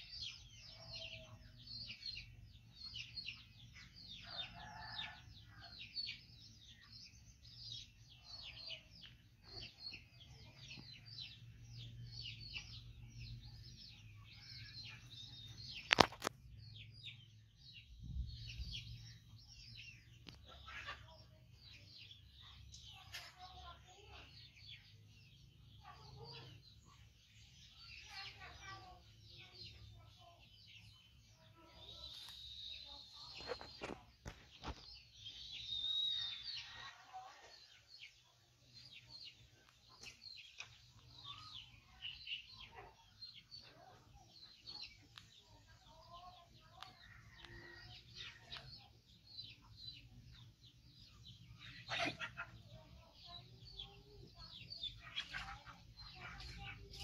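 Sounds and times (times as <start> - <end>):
birds chirping and clucking: 0.0 - 57.0.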